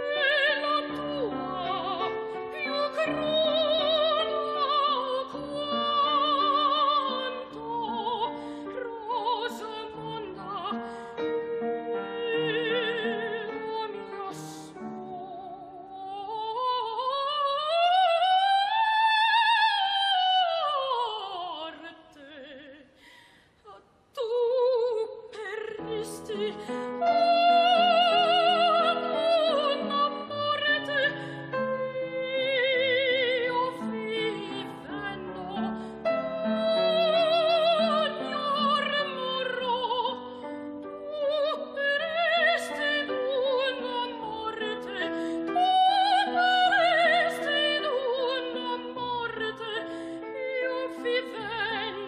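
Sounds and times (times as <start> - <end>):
operatic woman singing: 0.0 - 23.0, 23.7 - 52.0.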